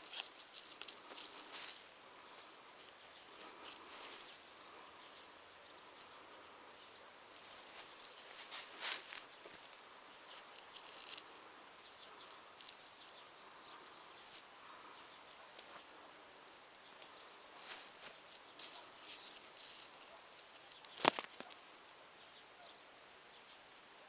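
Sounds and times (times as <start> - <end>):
distant birdsong: 0.0 - 23.7.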